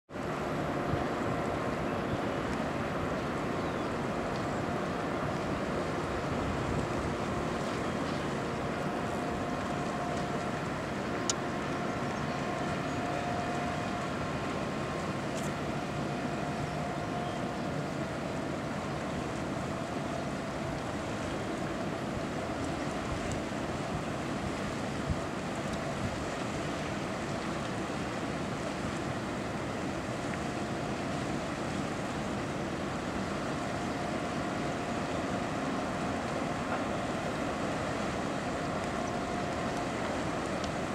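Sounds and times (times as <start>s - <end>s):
faint engine drone: 0.1s - 40.9s
low rumble and hiss: 0.2s - 40.9s.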